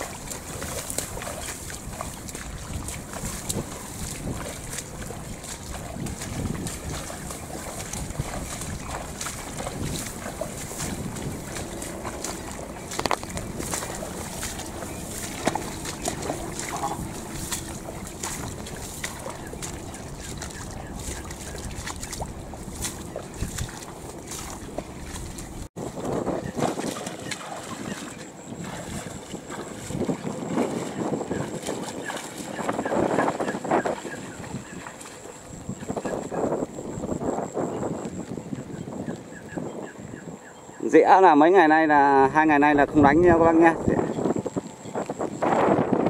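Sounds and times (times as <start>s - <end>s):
footsteps splashing through water: 0.0s - 40.6s, 41.8s - 46.0s
wind on microphone: 0.0s - 41.0s, 41.6s - 46.0s.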